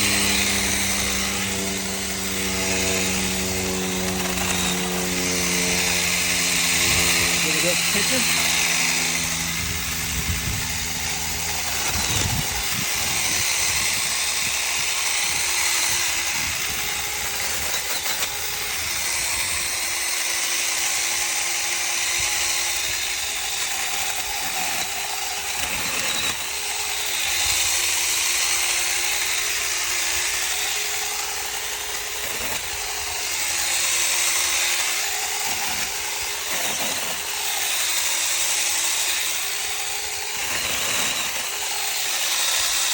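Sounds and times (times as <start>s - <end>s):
electric mini chainsaw cutting wood: 0.0s - 42.9s.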